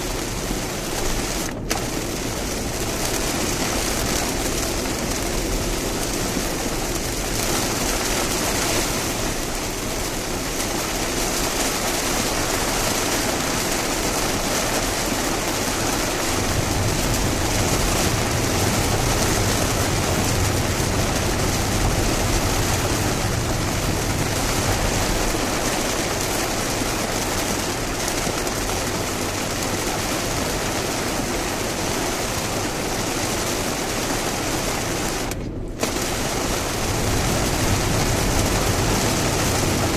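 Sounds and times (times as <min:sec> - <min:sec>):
heavy rain and tyre spray: 0:00.0 - 0:39.9
low road rumble: 0:00.0 - 0:39.9.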